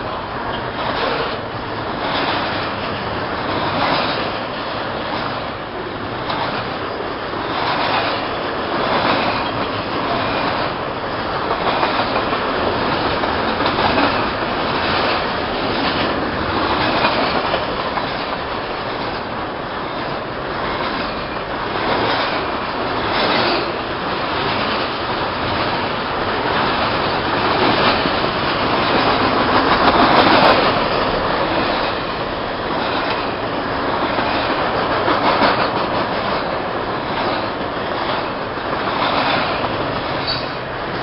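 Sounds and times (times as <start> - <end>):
steel wheels on rail: 0.0 - 41.0
wheels clacking over rail joints: 0.0 - 41.0.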